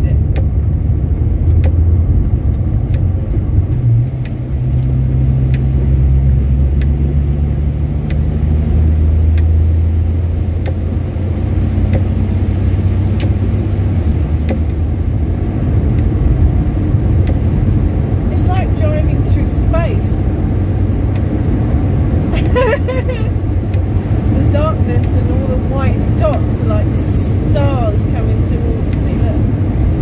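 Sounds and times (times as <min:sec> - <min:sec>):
car engine droning: 0:00.0 - 0:30.0
road noise: 0:00.0 - 0:30.0.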